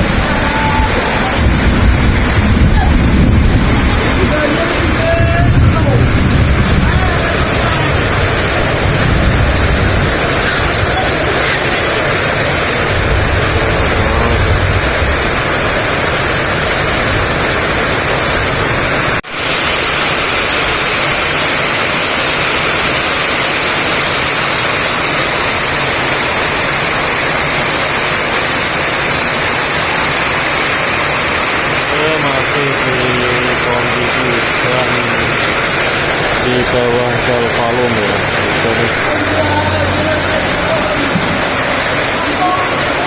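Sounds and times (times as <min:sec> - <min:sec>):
rumbling wind gusts: 0:00.0 - 0:23.4, 0:24.0 - 0:43.0
heavy rain pouring: 0:00.0 - 0:43.0.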